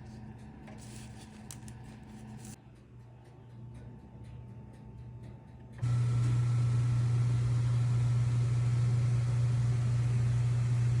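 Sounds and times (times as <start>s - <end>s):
low machine hum with hiss: 0.0s - 11.0s.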